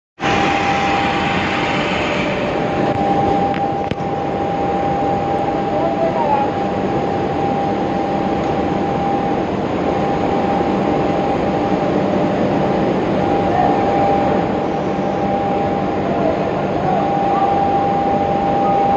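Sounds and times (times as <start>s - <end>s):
furnace burner roaring: 0.2s - 18.9s
high whine: 0.2s - 18.9s.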